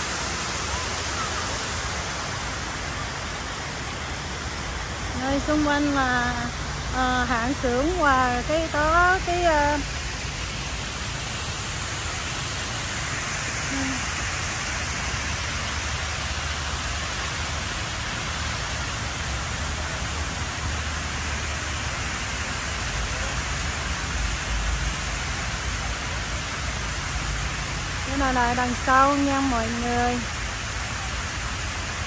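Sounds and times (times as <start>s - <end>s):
water rushing down fountain wall: 0.0s - 32.0s.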